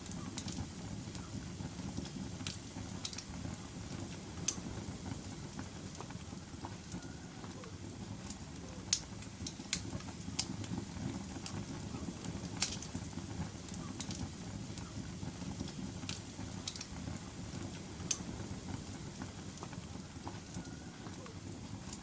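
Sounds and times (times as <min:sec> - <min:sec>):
fire crackles and pops: 0:00.0 - 0:22.0
wood fire burning: 0:00.0 - 0:22.0.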